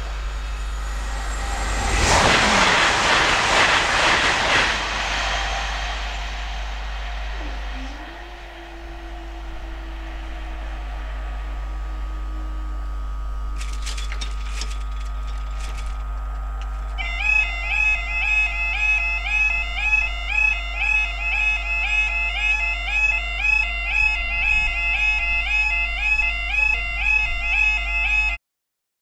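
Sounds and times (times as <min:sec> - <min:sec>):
level crossing electronic warble alarm: 0:00.0 - 0:28.4.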